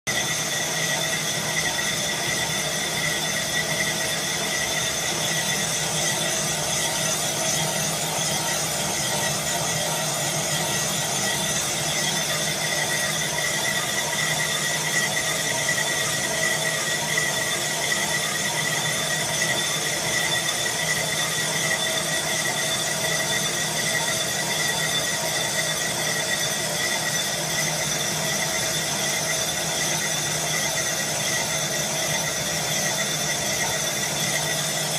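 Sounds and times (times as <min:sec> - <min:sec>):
lathe running: 0:00.1 - 0:34.9.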